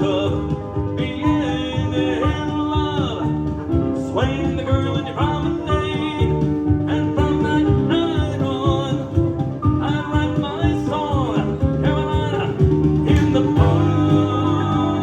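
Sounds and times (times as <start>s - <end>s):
country music with steady beat: 0.0s - 15.0s.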